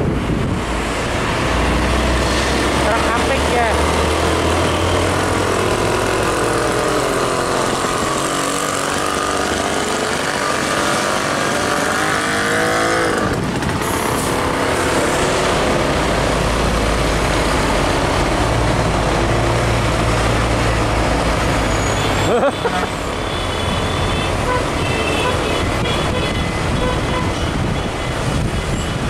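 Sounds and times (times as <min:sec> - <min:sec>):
truck engine droning: 0:00.0 - 0:29.0
truck accelerating past: 0:00.2 - 0:24.8.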